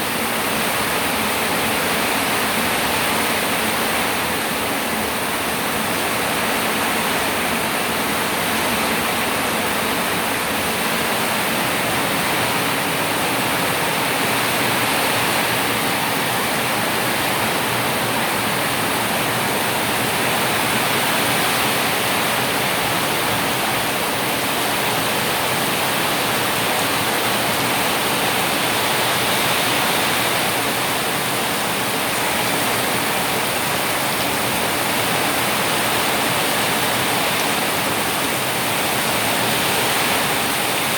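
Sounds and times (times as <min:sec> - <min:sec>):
water rushing: 0:00.0 - 0:40.9.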